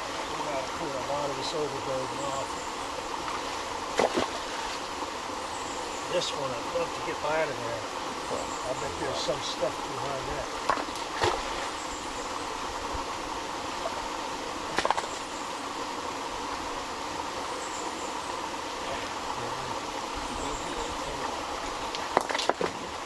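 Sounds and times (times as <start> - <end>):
creek and waterfall rushing: 0.0 - 23.0.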